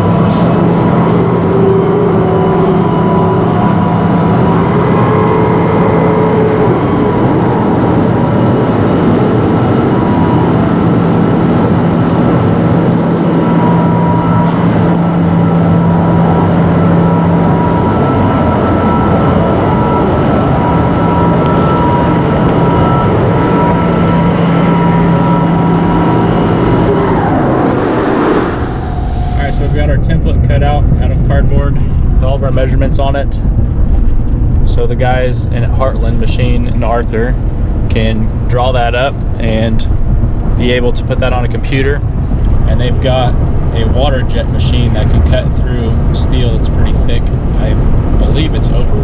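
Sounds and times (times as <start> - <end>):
vehicle engine droning: 0.0 - 49.0.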